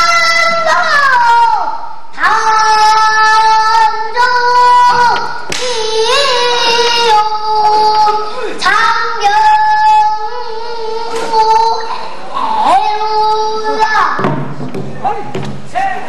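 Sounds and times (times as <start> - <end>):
girl singing: 0.0 - 14.4.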